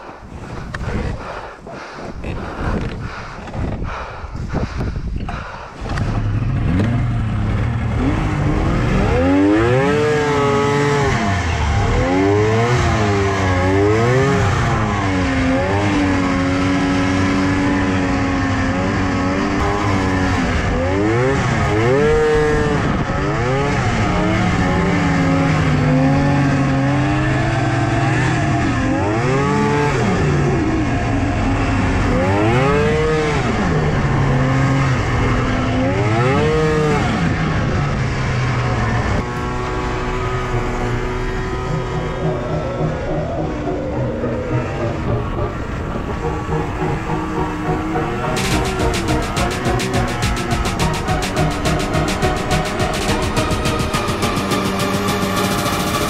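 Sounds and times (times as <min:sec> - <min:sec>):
snowmobile engine revving: 0:05.4 - 0:56.0.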